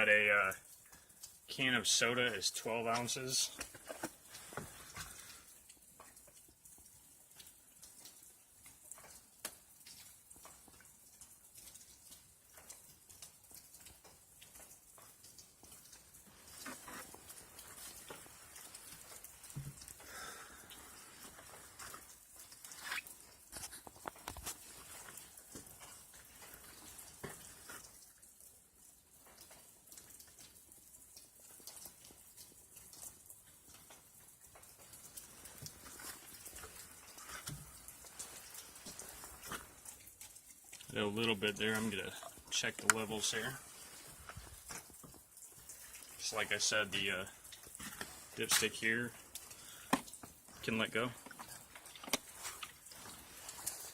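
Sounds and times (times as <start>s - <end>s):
oil pattering through a funnel: 0.0s - 53.9s
faint clicks and taps: 0.4s - 53.9s.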